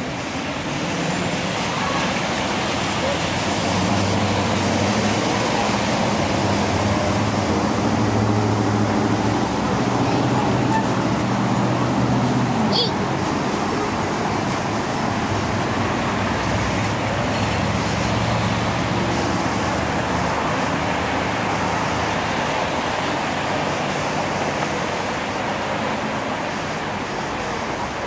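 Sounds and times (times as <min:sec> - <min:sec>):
continuous noisy roar: 0:00.0 - 0:28.0.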